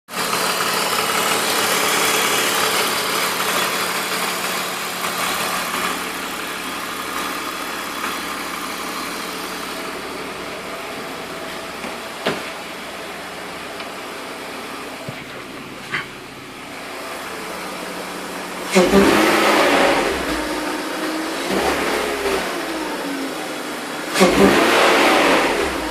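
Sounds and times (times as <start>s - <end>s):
car engine running: 0.1s - 25.9s.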